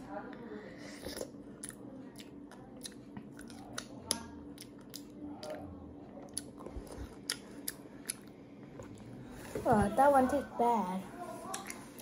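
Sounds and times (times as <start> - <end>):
child chewing fruit: 0.0 - 10.3, 11.2 - 12.0.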